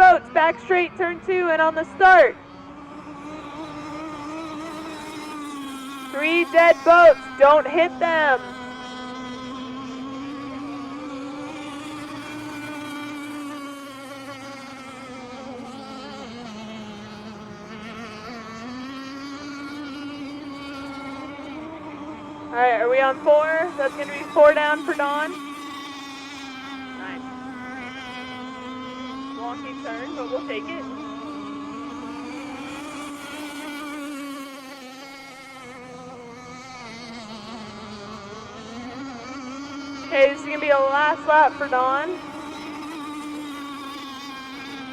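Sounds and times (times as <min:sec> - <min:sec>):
rc boat engines buzzing: 0:00.0 - 0:44.9.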